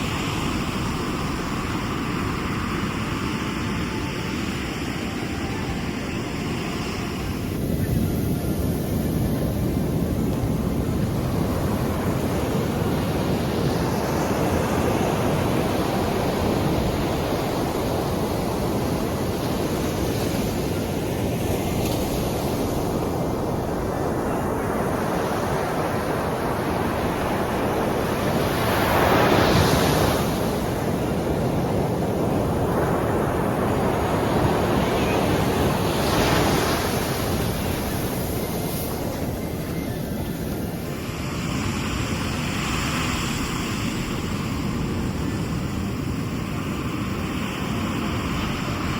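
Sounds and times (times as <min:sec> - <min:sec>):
sea waves washing onto shore: 0:00.0 - 0:48.9.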